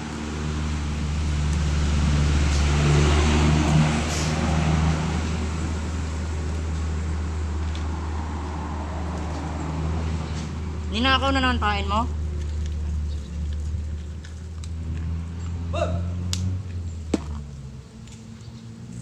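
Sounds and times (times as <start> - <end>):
traffic rumbling past: 0.0 - 19.0.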